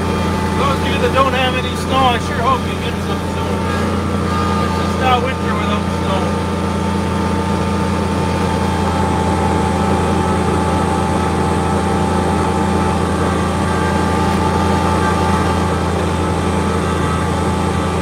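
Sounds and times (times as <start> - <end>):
snowblower whine: 0.0 - 18.0
tractor diesel engine droning: 0.0 - 18.0.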